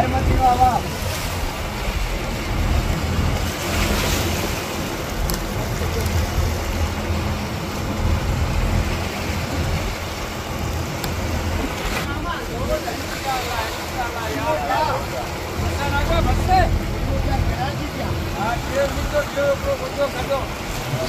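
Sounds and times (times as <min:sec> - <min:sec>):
boat engine droning: 0:00.0 - 0:21.0
water rushing and splashing: 0:00.0 - 0:21.0.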